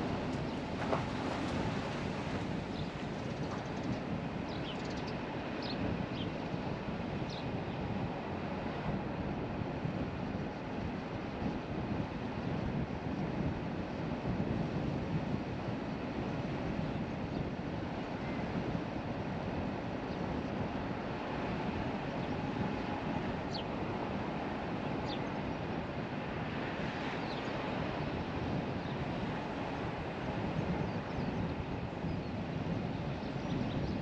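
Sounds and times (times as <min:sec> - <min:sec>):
car road and wind noise: 0:00.0 - 0:34.0.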